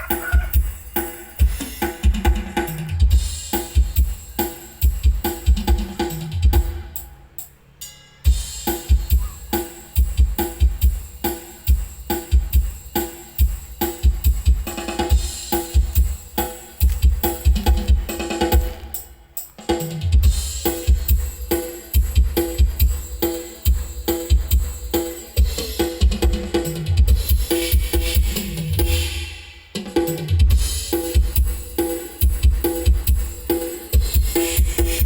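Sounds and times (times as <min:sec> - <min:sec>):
loud music with heavy kick drum: 0:00.0 - 0:07.1, 0:08.2 - 0:35.0.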